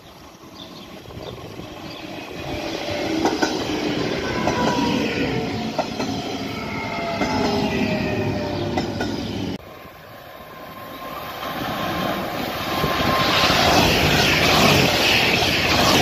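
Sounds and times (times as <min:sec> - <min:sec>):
train high whine: 0:00.0 - 0:16.0
train passing platform: 0:00.0 - 0:16.0
train rushing past: 0:00.1 - 0:16.0.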